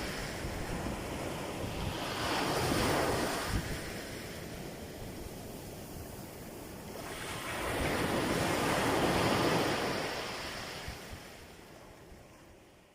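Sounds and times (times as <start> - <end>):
sea waves breaking: 0.0 - 12.7.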